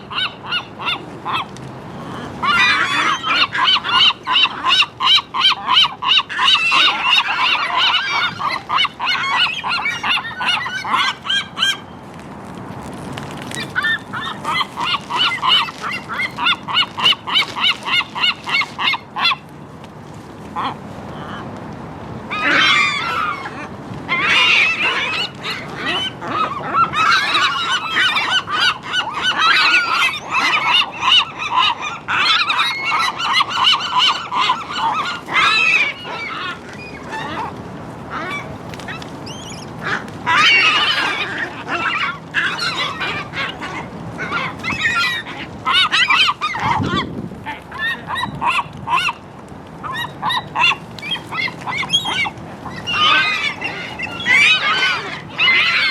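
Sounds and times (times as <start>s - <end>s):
seagulls squawking: 0.0s - 12.0s, 13.5s - 19.4s, 22.3s - 49.2s, 49.8s - 55.9s.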